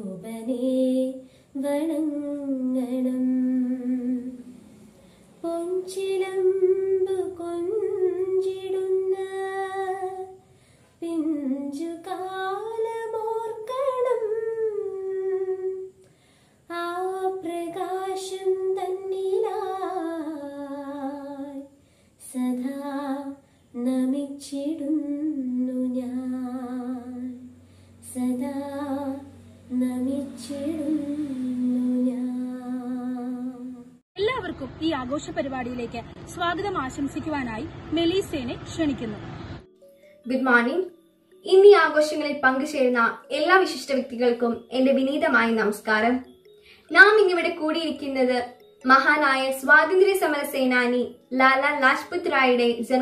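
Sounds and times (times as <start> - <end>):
woman singing unaccompanied: 0.0 - 16.1, 16.7 - 34.0, 39.7 - 53.0.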